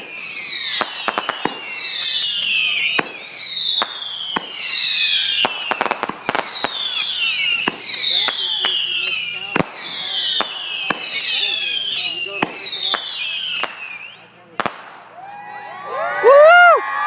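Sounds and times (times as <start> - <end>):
falling firework whistles: 0.0 - 15.6
firework bangs and crackles: 0.0 - 15.6.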